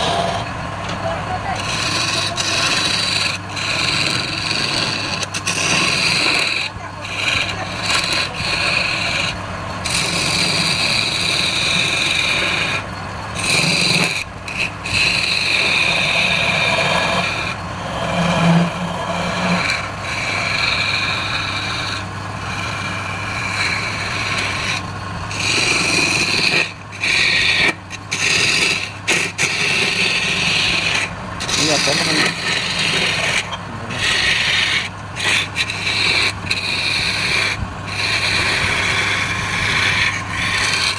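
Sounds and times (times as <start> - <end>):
lathe motor hum: 0.0 - 40.9
turning tool scraping spinning wood: 0.0 - 40.9.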